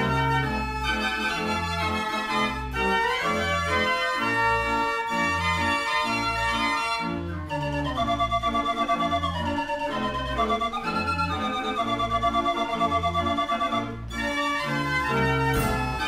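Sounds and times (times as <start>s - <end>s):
organ chords: 0.0s - 16.0s.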